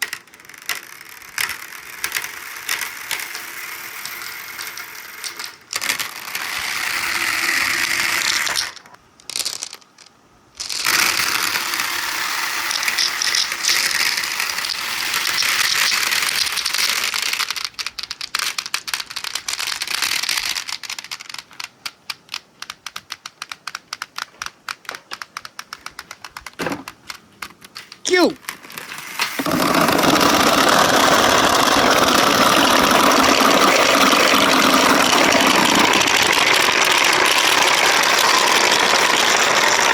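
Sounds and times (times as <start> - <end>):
marbles clicking and clacking: 0.0 - 39.9
marbles rolling along track: 0.0 - 39.9.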